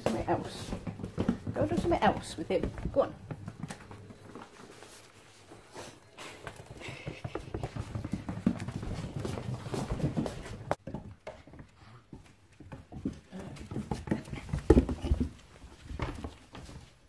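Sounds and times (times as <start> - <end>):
puppy paws pattering on hard floor: 0.0 - 17.0.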